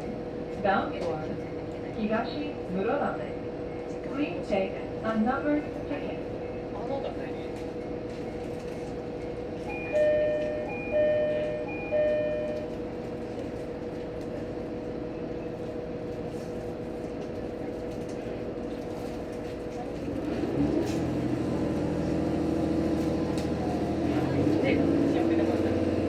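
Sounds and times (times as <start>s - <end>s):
railcar diesel engine: 0.0s - 26.0s.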